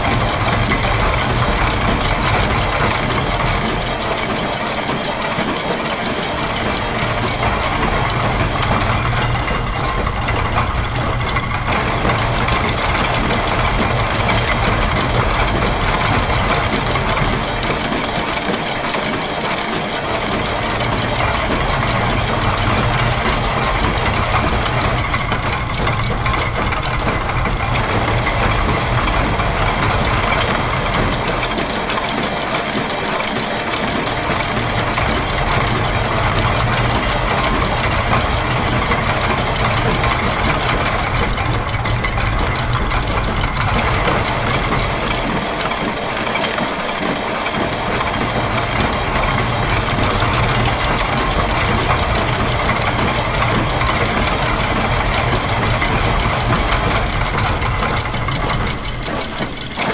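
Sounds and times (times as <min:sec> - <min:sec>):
clatter of gears and presses: 0:00.0 - 0:59.9
mechanical hum: 0:00.0 - 0:59.9.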